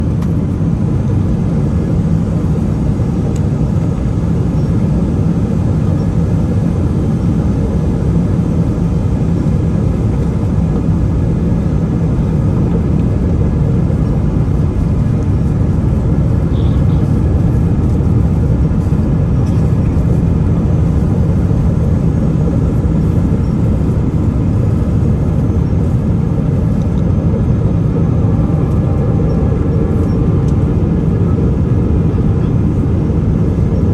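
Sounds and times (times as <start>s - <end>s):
airliner engine rumble: 0.0s - 33.9s.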